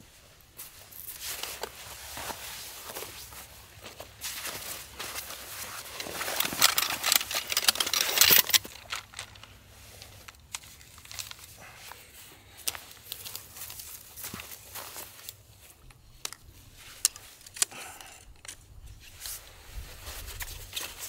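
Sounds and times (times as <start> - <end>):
crinkling and rustling: 0.6 - 21.0.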